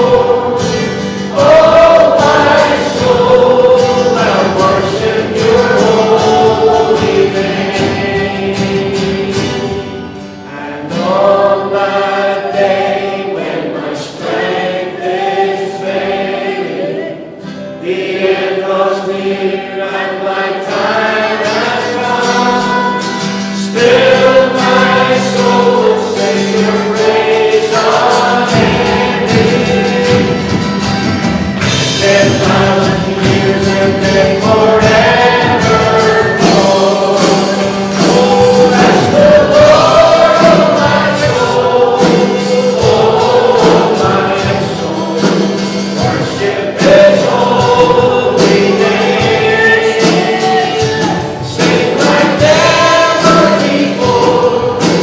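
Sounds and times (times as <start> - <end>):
congregation singing: 0.0 - 55.0
musical accompaniment: 0.0 - 55.0.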